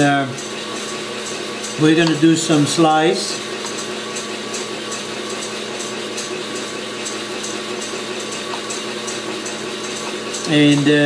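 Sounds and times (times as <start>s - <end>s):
electric mixer motor humming: 0.0s - 11.0s.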